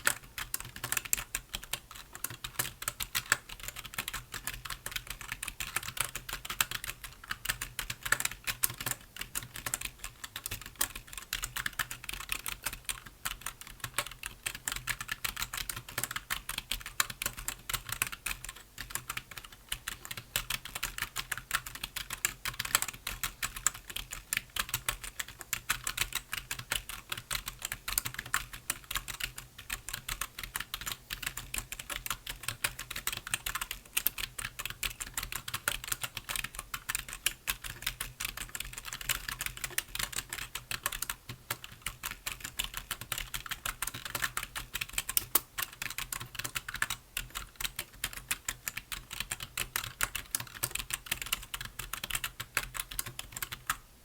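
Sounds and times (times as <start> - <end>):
keyboard typing clicks: 0.0 - 53.8.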